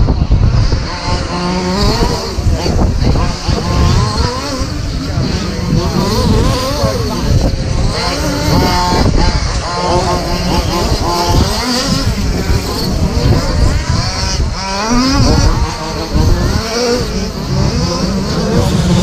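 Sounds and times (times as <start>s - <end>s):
rc truck motors whining: 0.1s - 19.0s.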